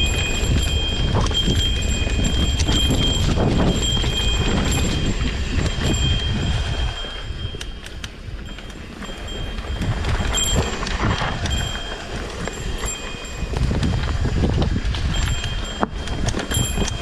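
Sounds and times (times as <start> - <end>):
mountain bike rattling over trail: 0.0 - 17.0
wind rumble on microphone: 0.0 - 17.0.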